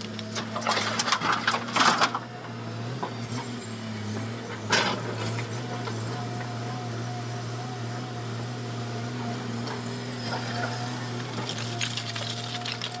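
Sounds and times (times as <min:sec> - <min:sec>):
excavator engine drone: 0:00.0 - 0:13.0.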